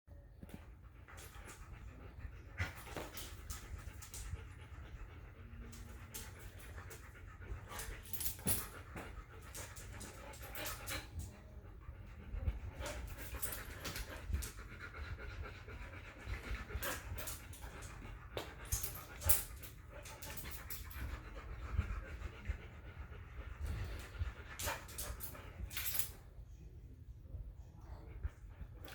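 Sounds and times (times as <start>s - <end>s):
dogs panting: 0.4s - 26.2s.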